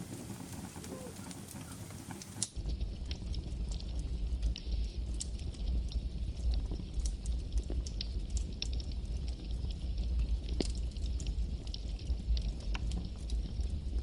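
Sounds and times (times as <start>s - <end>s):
campfire flames rumbling: 0.0s - 14.0s
wood crackling and popping: 0.0s - 14.0s.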